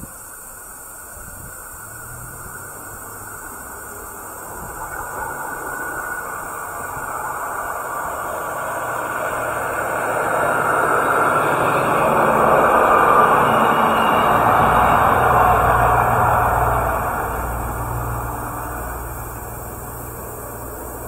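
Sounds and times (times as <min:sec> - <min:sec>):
diesel railcar approaching: 0:00.0 - 0:21.0.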